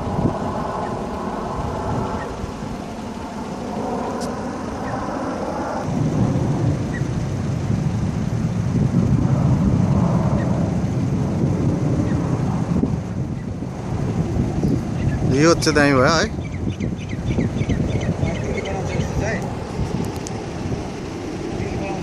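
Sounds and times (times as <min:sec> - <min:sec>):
jet aircraft rumbling overhead: 0:00.0 - 0:22.0
wind buffeting microphone: 0:00.0 - 0:22.0.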